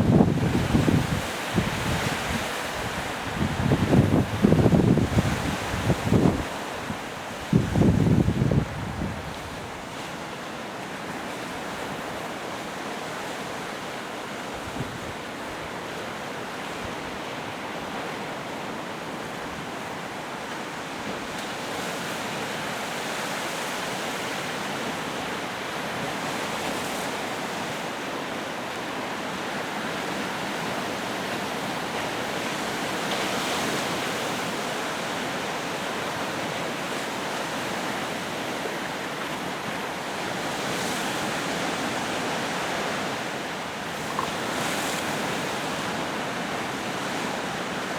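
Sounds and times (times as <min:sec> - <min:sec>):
waves breaking on shore: 0:00.0 - 0:47.9.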